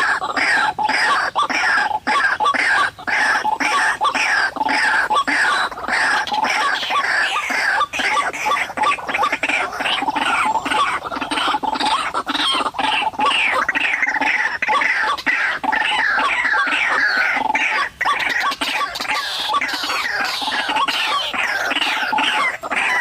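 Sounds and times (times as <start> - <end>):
waterhen calling: 0.0 - 23.0.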